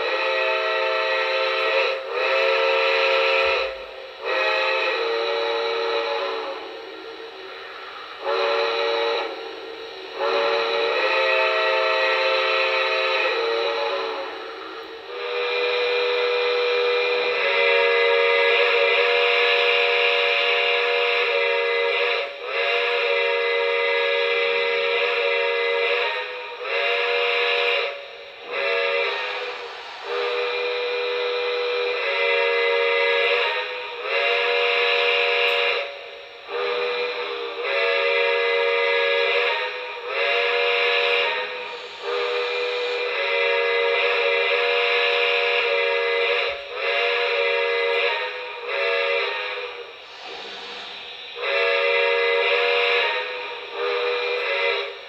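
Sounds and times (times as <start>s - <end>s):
steam locomotive chime whistle: 0.0s - 55.0s.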